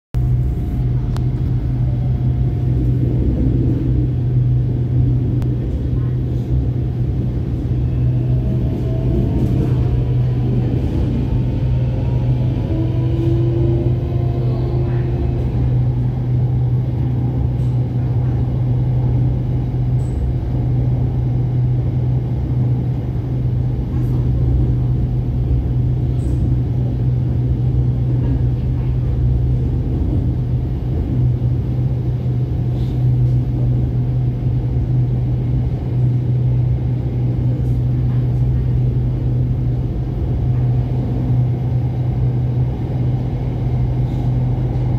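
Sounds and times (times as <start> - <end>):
train cabin rumble: 0.2 - 44.9.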